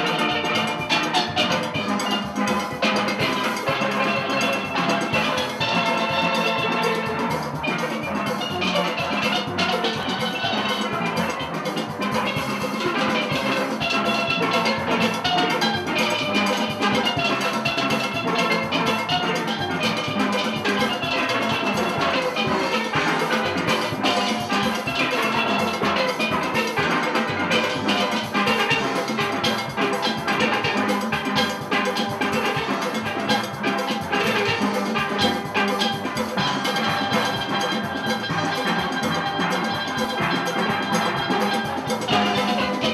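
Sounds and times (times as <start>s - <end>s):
steel pan orchestra playing: 0.0s - 42.9s.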